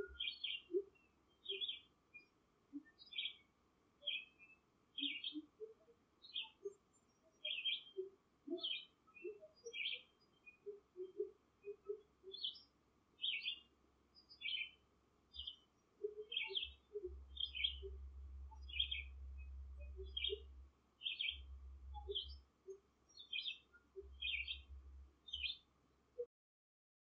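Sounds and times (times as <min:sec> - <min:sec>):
bird chirping: 0:00.0 - 0:25.8.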